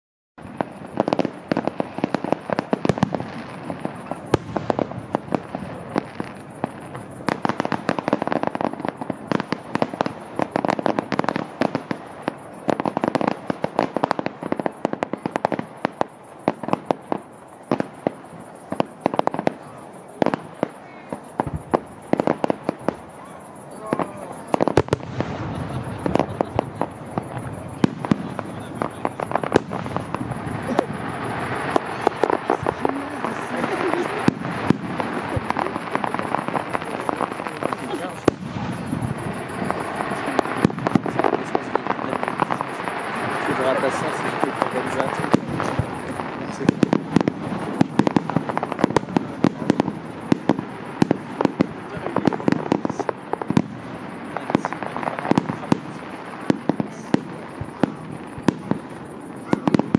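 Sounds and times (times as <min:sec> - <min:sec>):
background noise: 0:00.4 - 0:59.9
fireworks bangs and crackles: 0:00.4 - 0:59.9.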